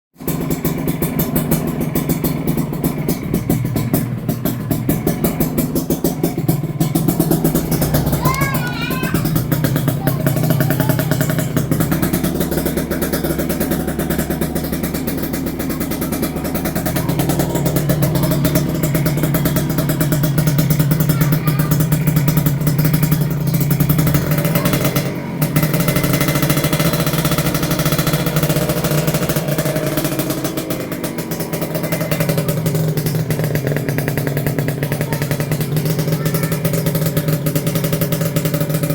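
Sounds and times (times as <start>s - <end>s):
motorcycle engine crackling exhaust: 0.1s - 38.9s.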